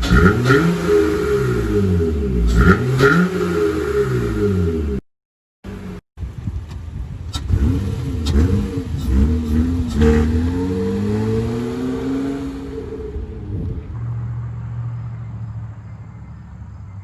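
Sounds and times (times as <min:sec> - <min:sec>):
car engine revving: 0:00.0 - 0:05.0, 0:07.3 - 0:17.0.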